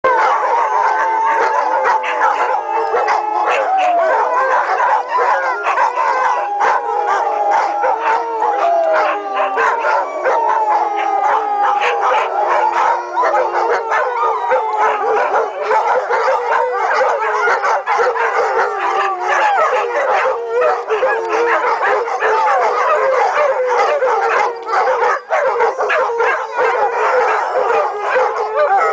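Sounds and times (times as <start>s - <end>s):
dogs howling: 0.0s - 28.9s
dogs barking and yipping: 0.1s - 28.9s.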